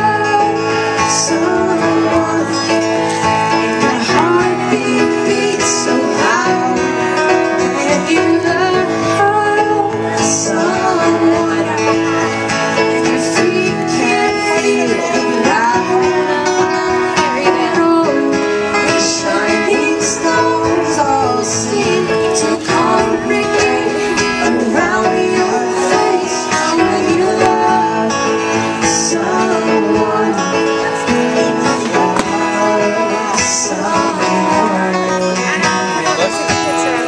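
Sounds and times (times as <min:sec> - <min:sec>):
guitar playing: 0:00.0 - 0:37.0
keyboards: 0:00.0 - 0:37.0.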